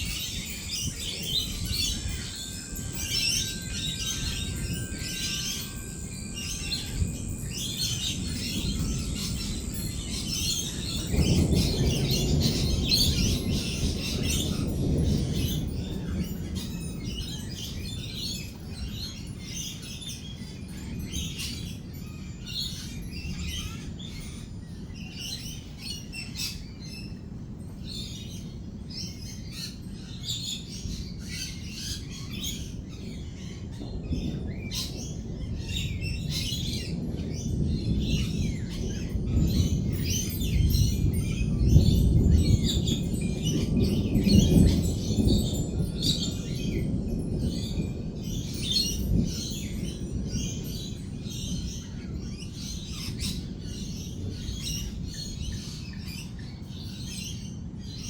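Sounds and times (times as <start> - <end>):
low roll of thunder: 0.0 - 19.5, 30.7 - 58.0
lorikeets chattering and chirping: 0.0 - 27.2, 27.8 - 58.0.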